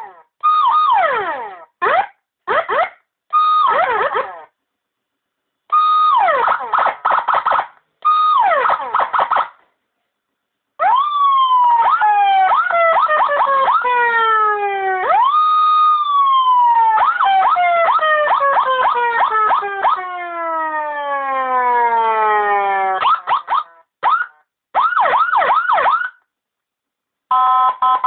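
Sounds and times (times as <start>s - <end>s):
electronic siren wailing and chirping: 0.0s - 4.6s, 5.7s - 9.5s, 10.8s - 26.2s.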